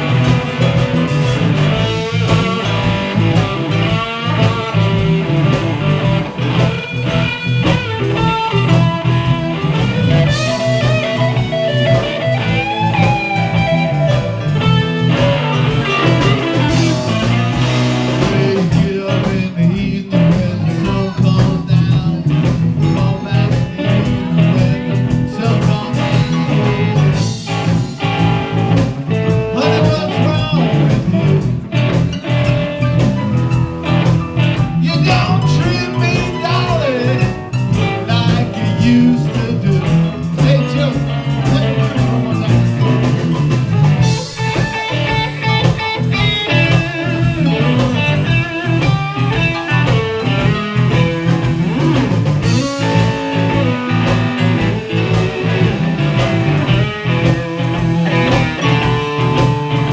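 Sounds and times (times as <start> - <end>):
blues band playing: 0.0 - 59.9
electric guitars: 0.0 - 59.9.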